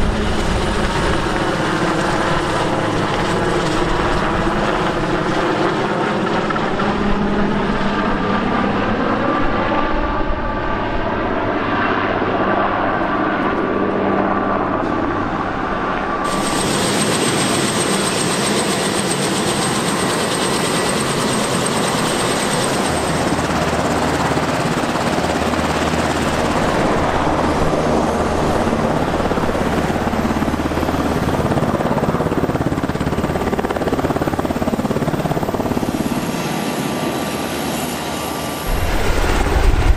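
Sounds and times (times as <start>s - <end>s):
helicopter flying past: 0.0s - 39.9s
helicopter rotor noise: 0.0s - 39.9s
helicopter turbine whine: 0.0s - 39.9s.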